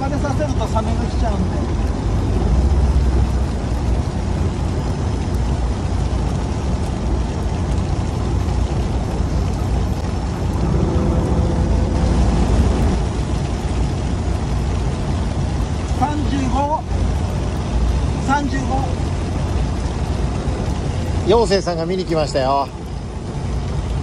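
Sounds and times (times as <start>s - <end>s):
boat engine running: 0.0s - 22.1s
wind: 0.0s - 24.0s.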